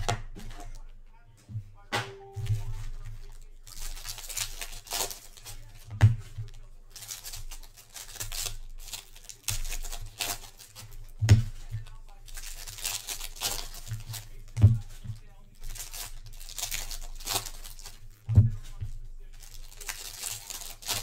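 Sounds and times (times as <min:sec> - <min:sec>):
foil packs crinkling: 0:02.2 - 0:21.0.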